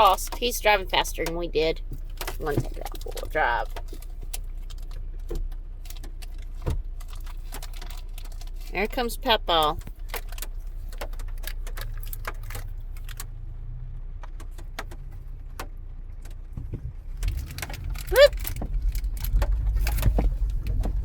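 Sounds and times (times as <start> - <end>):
clicks and rattles: 0.0 - 13.4, 14.2 - 21.0
off-road vehicle engine rumbling: 0.0 - 21.0.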